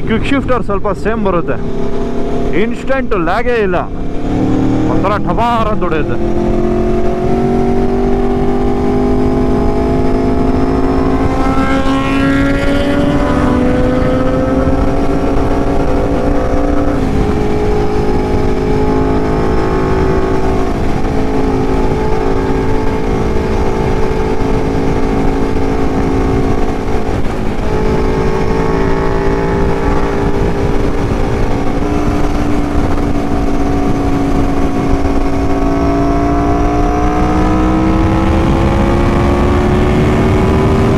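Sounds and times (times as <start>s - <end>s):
motorcycle engine running: 0.0s - 40.9s
wind rush: 0.0s - 40.9s.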